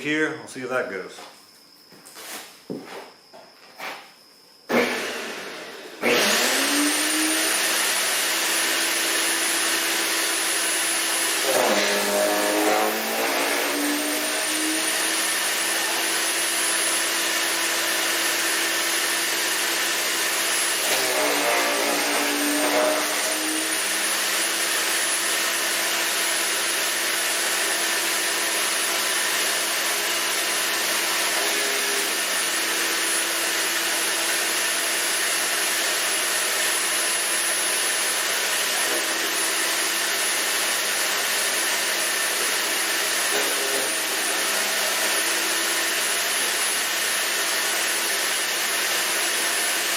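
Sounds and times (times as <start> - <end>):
wood chipper motor whine: 4.7 - 49.9.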